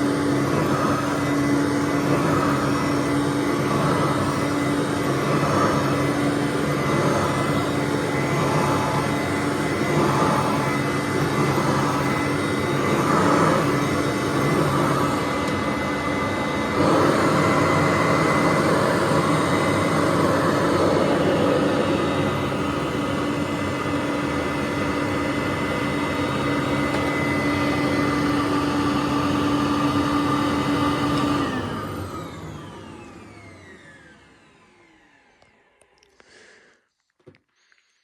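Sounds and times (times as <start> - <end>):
vacuum motor winding down: 0.0 - 36.1
upright vacuum cleaner running: 0.0 - 36.6.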